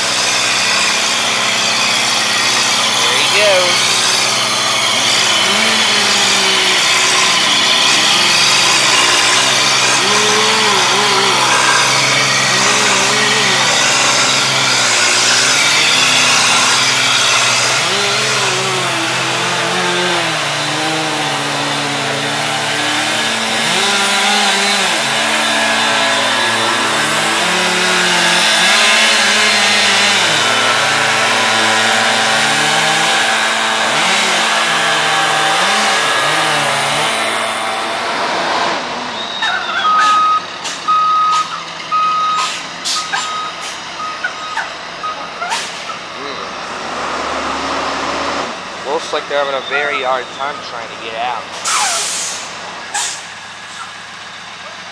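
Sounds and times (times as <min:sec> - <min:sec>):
engine revving: 0:00.0 - 0:54.9.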